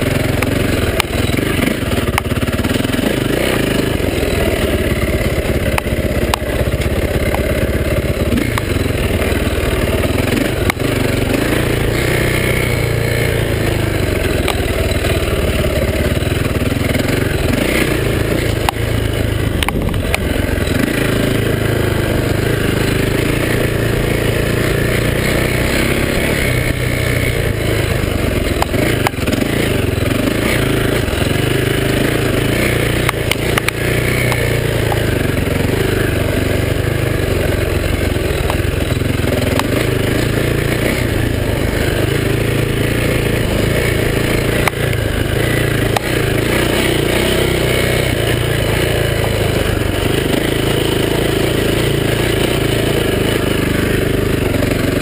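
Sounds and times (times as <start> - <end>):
dirt bike engine running: 0.0 - 55.0
sharp knocks on rough trail: 0.0 - 55.0.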